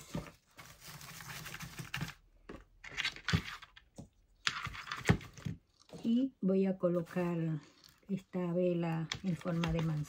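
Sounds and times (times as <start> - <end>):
decorations rustling and crinkling: 0.0 - 10.0.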